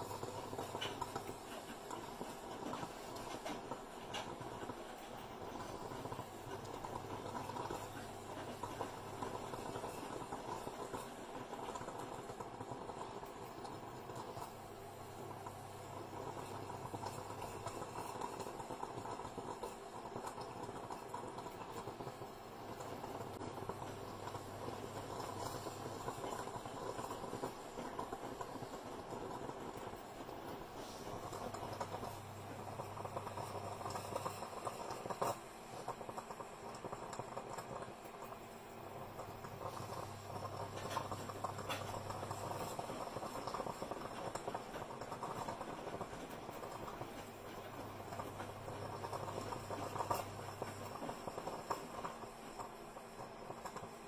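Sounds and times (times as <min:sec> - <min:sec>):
moka pot bubbling hiss: 0:00.0 - 0:54.0.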